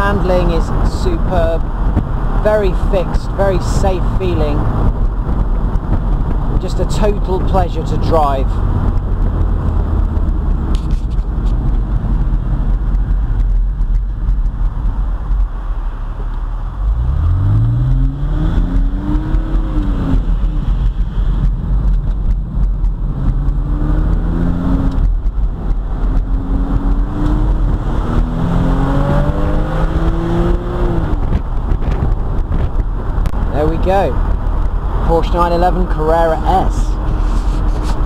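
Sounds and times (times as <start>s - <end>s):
car engine accelerating: 0.0s - 38.0s
road noise rumble: 0.0s - 38.0s.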